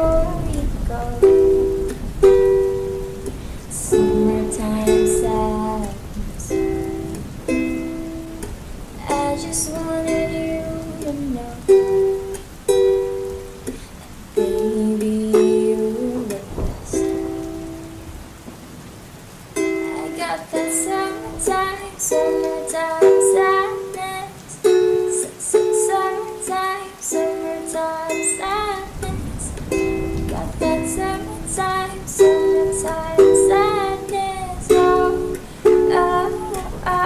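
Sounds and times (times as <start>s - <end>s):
plucked acoustic strings: 0.0s - 18.1s, 19.6s - 37.0s.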